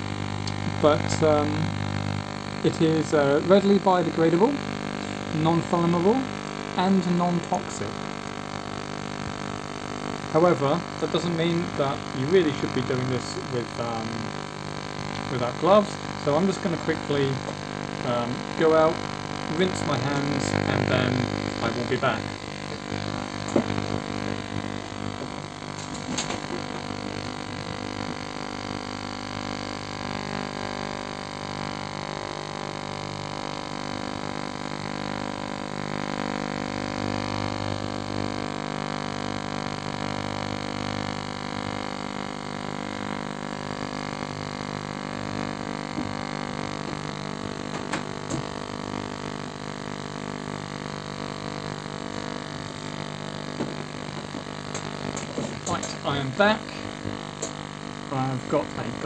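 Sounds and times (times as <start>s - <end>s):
ultrasonic cleaner humming: 0.0s - 59.0s.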